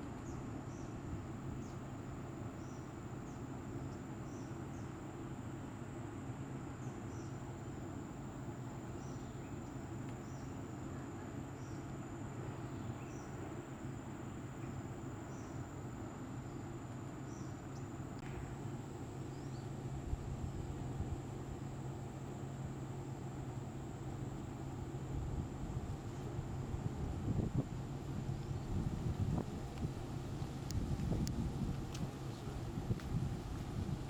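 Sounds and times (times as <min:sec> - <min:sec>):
low steady rumble: 0:00.0 - 0:34.0.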